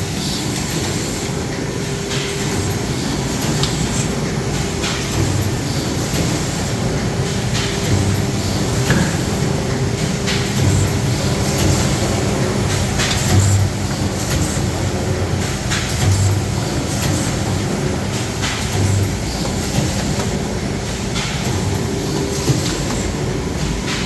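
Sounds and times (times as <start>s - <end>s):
machine clicks and clacks: 0.0s - 24.0s
machine humming: 0.0s - 24.0s.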